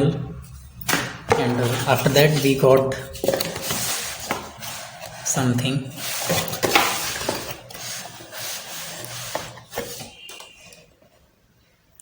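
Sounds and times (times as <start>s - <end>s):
paper and packaging rustling: 0.4s - 11.2s.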